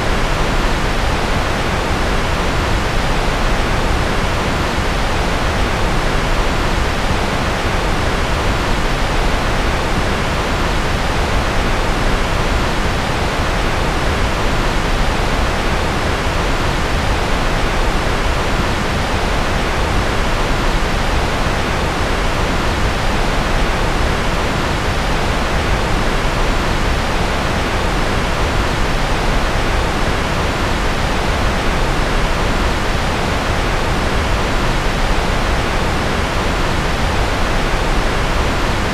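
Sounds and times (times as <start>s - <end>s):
steady white noise: 0.0s - 38.9s.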